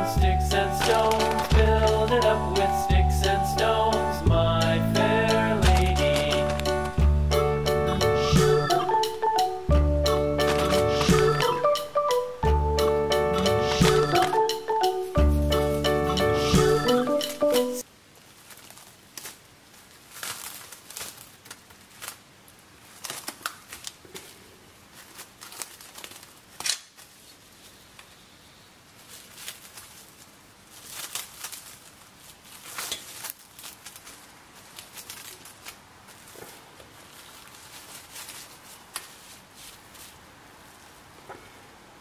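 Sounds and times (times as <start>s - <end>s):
cling film crinkling: 0.0s - 9.3s, 10.1s - 12.0s, 12.8s - 41.4s.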